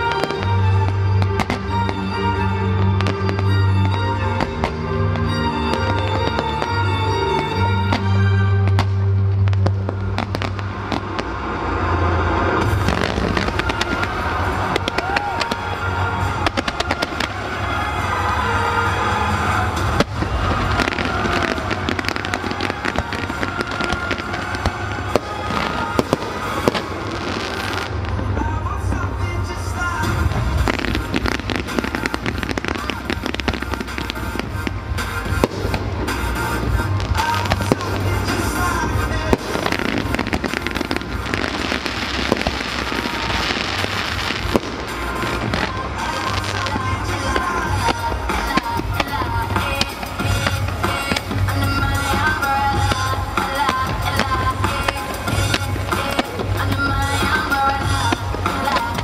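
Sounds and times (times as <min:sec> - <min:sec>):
fireworks bangs and crackles: 0:00.0 - 0:59.0
music with low bass: 0:00.0 - 0:59.0.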